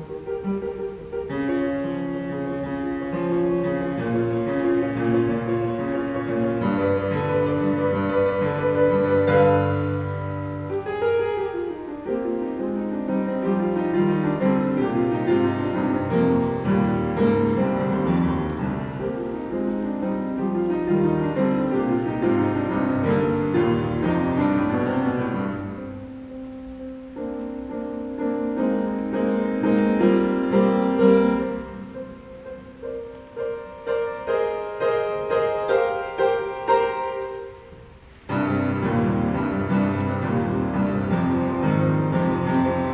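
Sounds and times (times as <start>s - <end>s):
classical piano piece: 0.0s - 42.9s.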